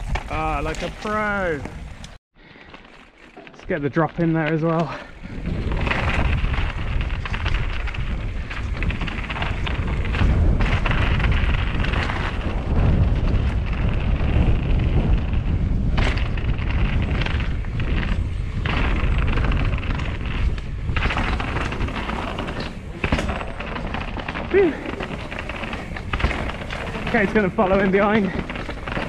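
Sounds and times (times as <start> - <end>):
bike tyres rattling on stone: 0.0 - 29.0
wind buffeting microphone: 5.0 - 29.0.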